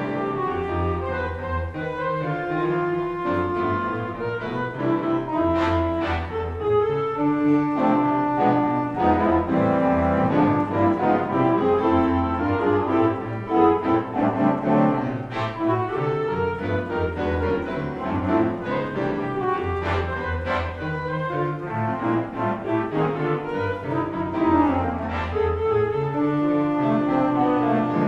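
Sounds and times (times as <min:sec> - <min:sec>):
theatre pipe organ ballad: 0:00.0 - 0:28.0.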